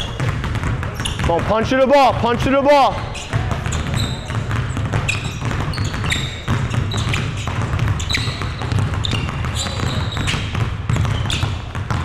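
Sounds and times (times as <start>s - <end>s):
basketballs dribbling on hardwood: 0.0s - 12.0s
sneakers squeaking on floor: 0.0s - 12.0s.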